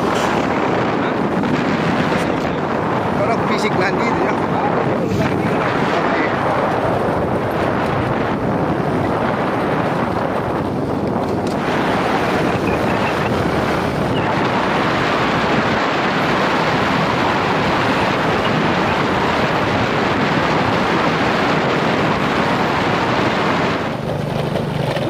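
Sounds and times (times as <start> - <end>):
wind rushing on microphone: 0.0 - 25.0
motorcycle engine running: 4.3 - 25.0.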